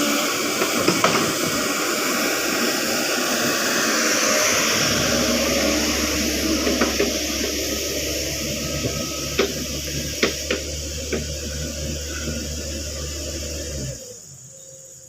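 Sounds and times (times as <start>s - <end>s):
hiss: 0.0s - 14.5s
diesel engine running: 0.0s - 15.0s.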